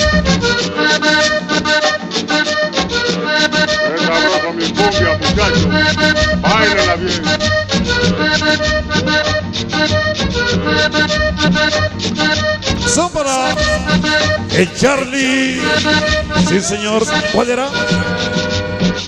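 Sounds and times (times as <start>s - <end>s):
accordion melody: 0.0s - 19.0s
steady percussion beat: 0.0s - 19.0s.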